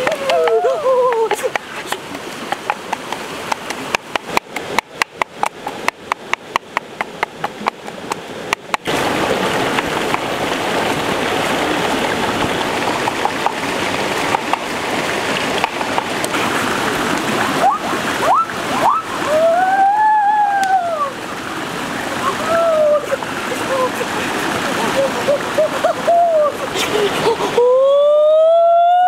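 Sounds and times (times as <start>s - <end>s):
shallow rocky stream rushing: 0.0s - 27.7s.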